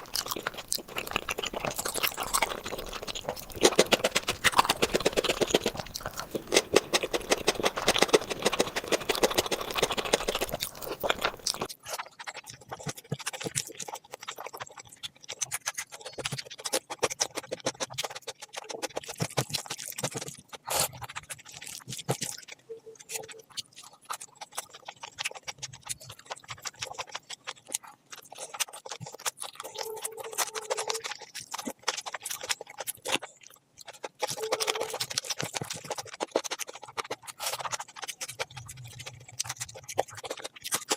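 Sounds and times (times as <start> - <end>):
close chewing: 0.0 - 40.9
crunchy chewing: 0.0 - 40.9
wet mouth clicks and smacks: 0.0 - 40.9.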